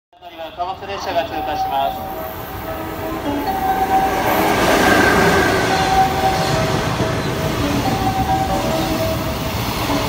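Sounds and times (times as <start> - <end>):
locomotive passing: 0.4 - 10.0.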